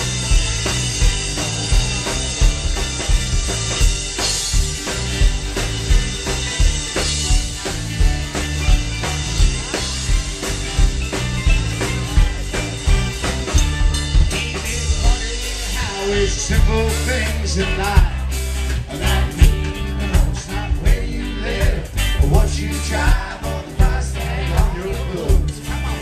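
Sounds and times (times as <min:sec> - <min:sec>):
lead guitar melody: 0:00.0 - 0:23.4
live country-rock band: 0:00.0 - 0:26.0
steady drum beat: 0:00.0 - 0:26.0.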